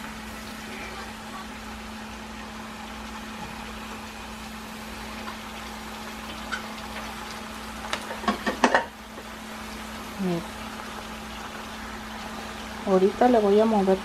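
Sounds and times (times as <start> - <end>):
frying hiss: 0.0 - 14.0.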